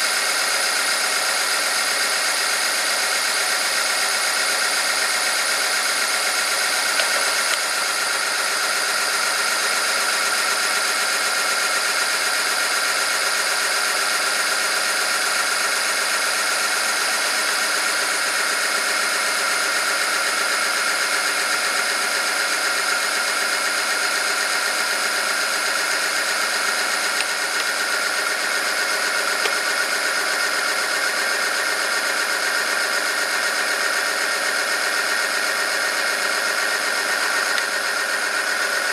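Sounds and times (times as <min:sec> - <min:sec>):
test machine motor whine: 0:00.0 - 0:38.9.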